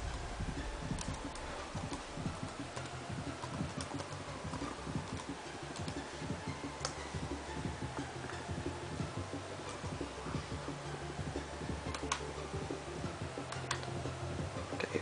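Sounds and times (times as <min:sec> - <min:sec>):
laptop keyboard typing: 0:00.0 - 0:14.2.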